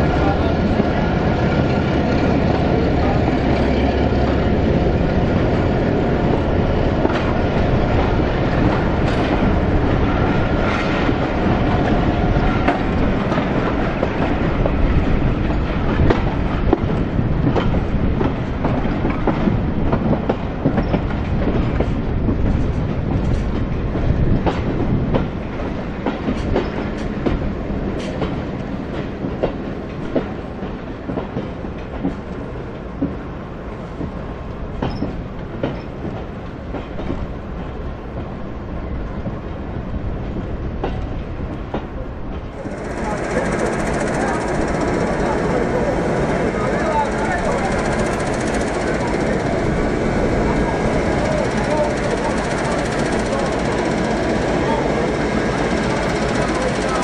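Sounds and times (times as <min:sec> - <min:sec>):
train wheels clattering over rail joints: 0:01.5 - 0:38.4, 0:40.2 - 0:57.0.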